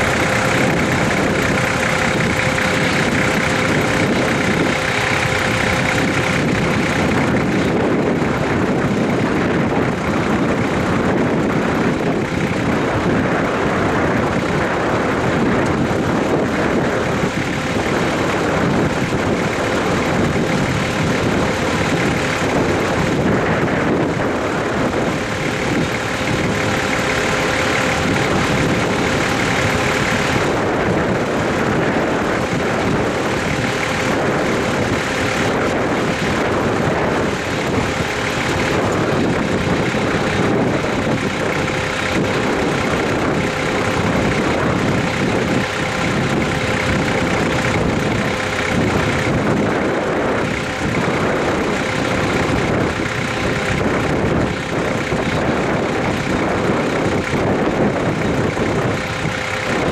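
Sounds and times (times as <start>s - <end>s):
thin steady whine: 0.0s - 59.9s
train wheels rumbling on rails: 0.0s - 59.9s.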